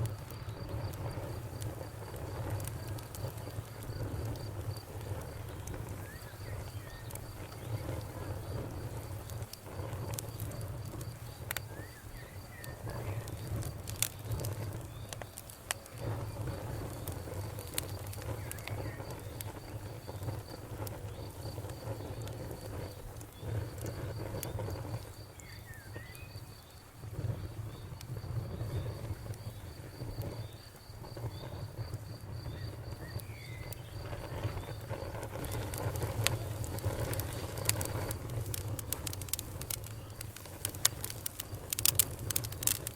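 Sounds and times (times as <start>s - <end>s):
campfire crackling and popping: 0.0s - 42.9s
cricket chirping trill: 0.0s - 42.9s.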